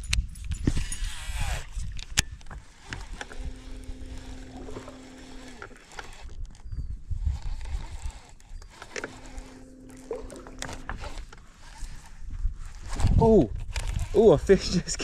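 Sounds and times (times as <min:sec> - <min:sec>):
fishing reel clicks: 0:00.7 - 0:14.4
electric trolling motor humming: 0:01.2 - 0:15.0.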